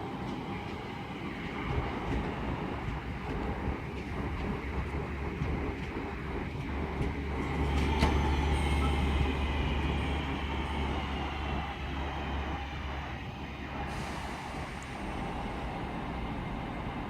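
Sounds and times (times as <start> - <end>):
electric train rumbling and whining: 0.0 - 17.0.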